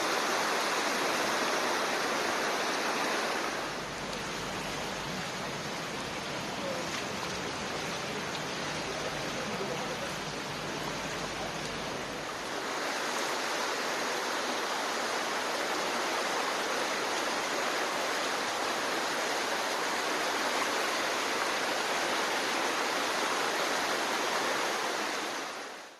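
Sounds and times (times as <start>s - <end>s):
floodwater rushing along street: 0.0s - 25.9s.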